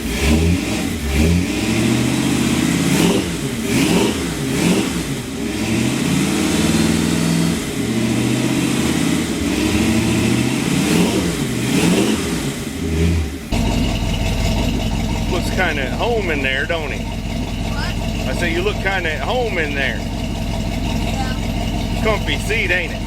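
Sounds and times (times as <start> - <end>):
pickup engine revving: 0.0 - 23.0.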